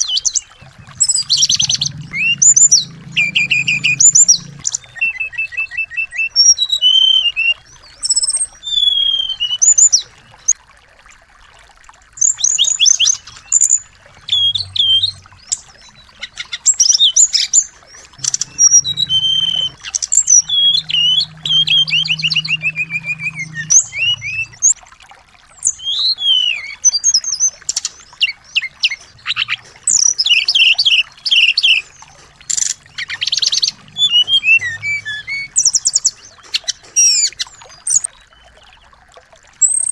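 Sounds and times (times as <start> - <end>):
songbirds singing: 0.0 - 10.6, 12.2 - 24.8, 25.5 - 39.9.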